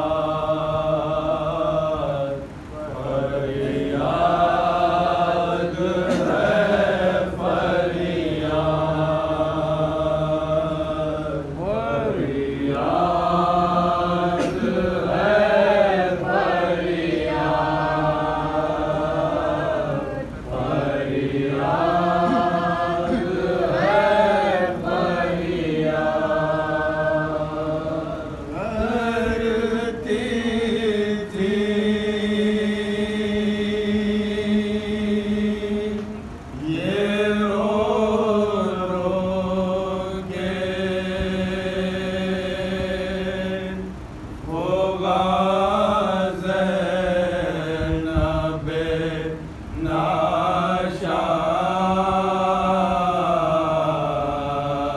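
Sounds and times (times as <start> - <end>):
men chanting a lament: 0.0 - 54.9.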